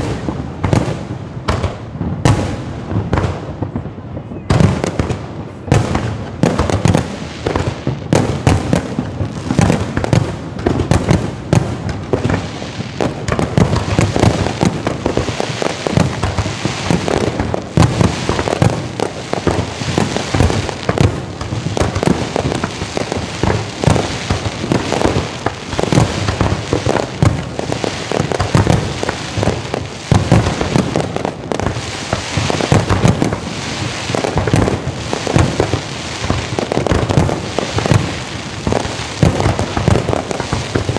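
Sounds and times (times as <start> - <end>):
firecrackers rapid bangs: 0.0 - 40.9.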